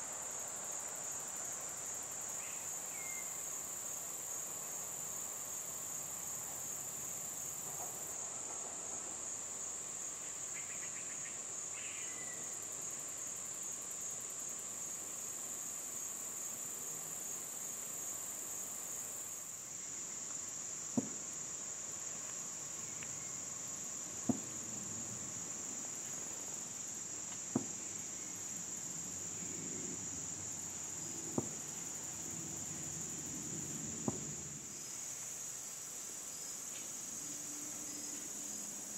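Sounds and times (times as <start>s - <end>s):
crickets and insects chorus: 0.0s - 38.9s.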